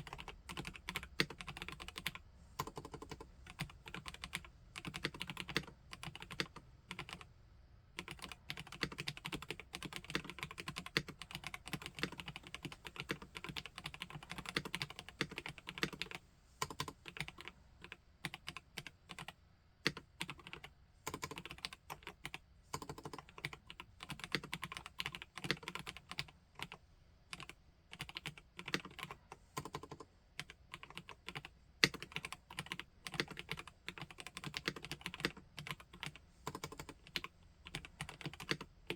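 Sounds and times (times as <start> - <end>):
mechanical keyboard typing: 0.0 - 7.2, 8.0 - 38.9.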